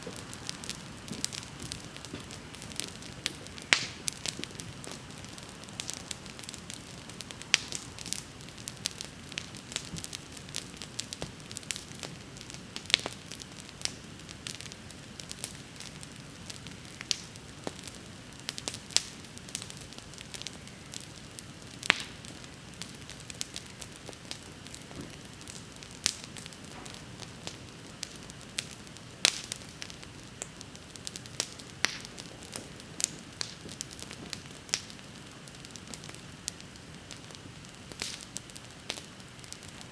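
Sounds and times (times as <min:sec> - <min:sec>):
bonfire hissing: 0:00.0 - 0:39.9
fire crackling and popping: 0:00.0 - 0:39.9.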